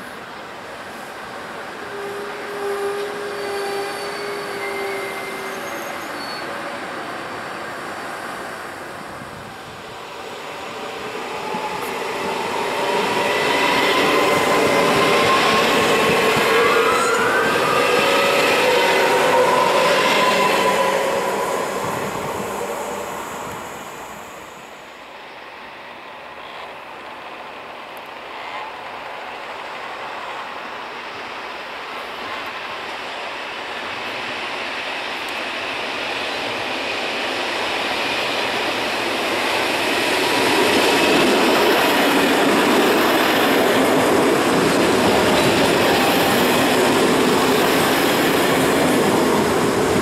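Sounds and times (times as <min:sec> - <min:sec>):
high-speed train passing: 0:00.0 - 0:50.0.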